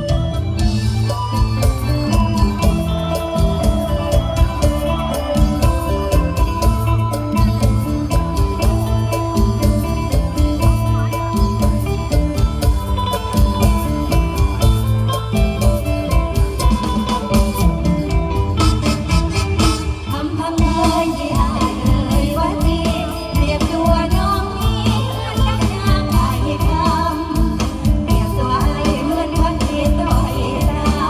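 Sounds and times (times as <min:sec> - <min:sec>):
live band music with drum beat: 0:00.0 - 0:31.0.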